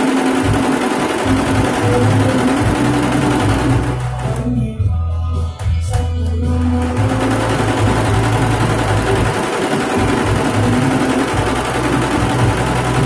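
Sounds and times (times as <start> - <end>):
embroidery machine stitching: 0.0 - 4.5, 6.6 - 13.0
low machine hum: 0.0 - 5.0, 5.9 - 13.0.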